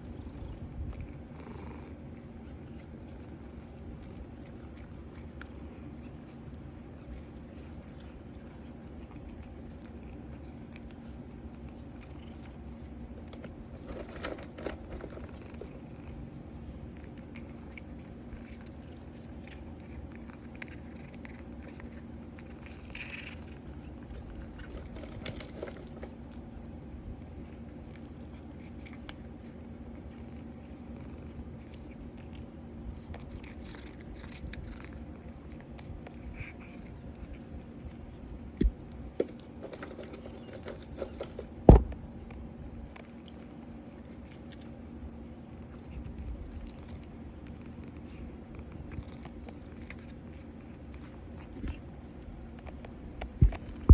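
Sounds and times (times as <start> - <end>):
cat gnawing and crunching: 0.0 - 53.9.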